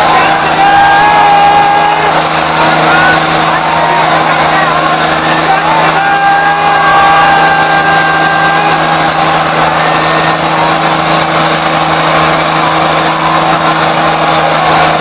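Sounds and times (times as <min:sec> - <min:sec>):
tractor diesel engines revving: 0:00.0 - 0:15.0.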